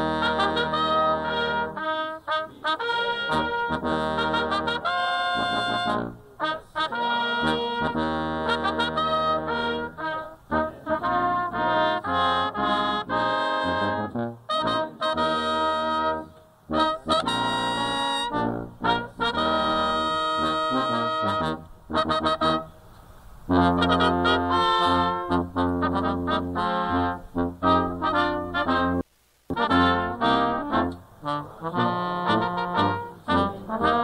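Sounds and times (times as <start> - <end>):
military brass band playing: 0.0 - 22.7, 23.5 - 34.0.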